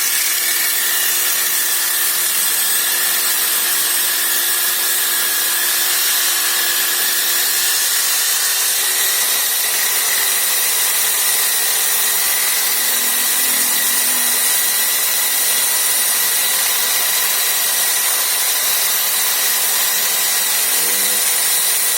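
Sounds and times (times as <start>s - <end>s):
saw blade cutting wood: 0.0s - 21.9s.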